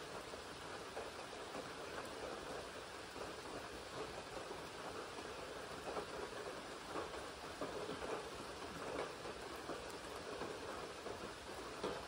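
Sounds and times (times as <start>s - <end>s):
rain falling on a lake: 0.0s - 12.0s.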